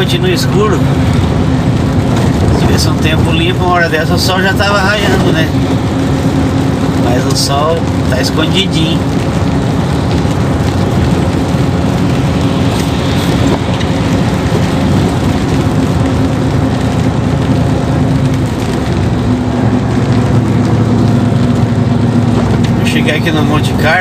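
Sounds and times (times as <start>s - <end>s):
rain: 0.0s - 24.0s
truck engine running: 0.0s - 24.0s
tyres hissing on wet road: 0.0s - 24.0s.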